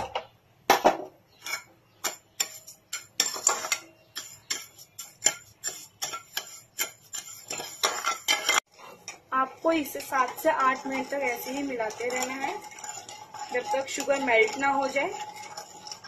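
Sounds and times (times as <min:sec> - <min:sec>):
ladle scraping a pan: 0:01.3 - 0:16.0.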